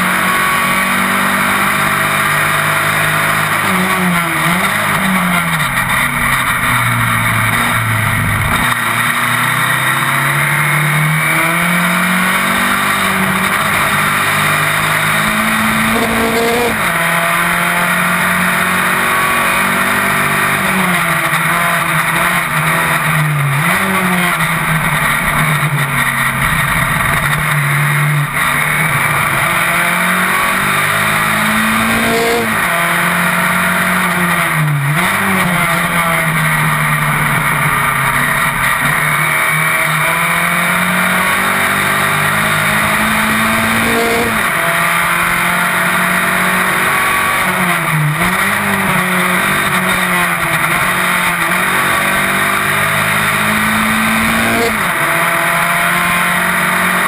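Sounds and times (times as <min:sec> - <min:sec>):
racing car engine shifting gears: 0:00.0 - 0:57.0.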